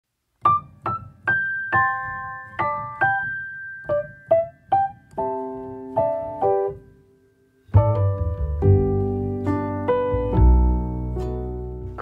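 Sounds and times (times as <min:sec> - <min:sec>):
slow keyboard melody: 0:00.4 - 0:12.0.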